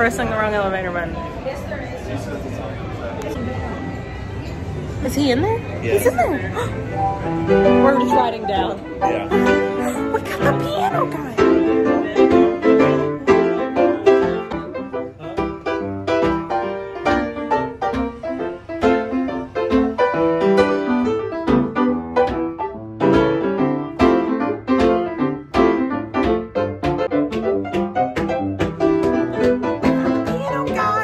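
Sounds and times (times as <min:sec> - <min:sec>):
lively piano tune: 0:04.6 - 0:31.0.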